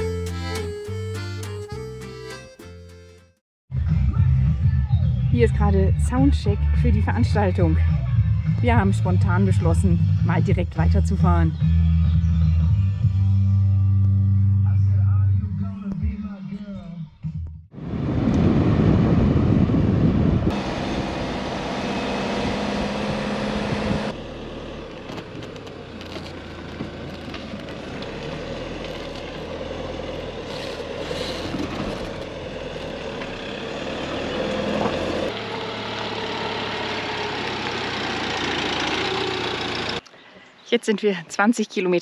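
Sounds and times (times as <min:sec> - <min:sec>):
vehicle engine and road noise: 0:00.0 - 0:02.4, 0:03.8 - 0:16.8, 0:17.4 - 0:42.0.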